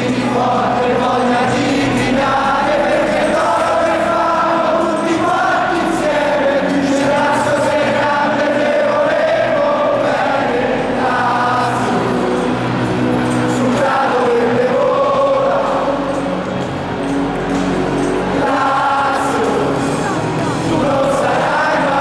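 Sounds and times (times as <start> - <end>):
stadium crowd singing: 0.0 - 22.0.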